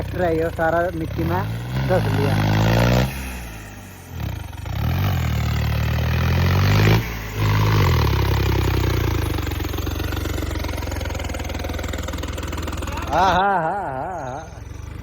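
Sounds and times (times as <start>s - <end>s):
tractor engine revving: 0.0s - 15.0s.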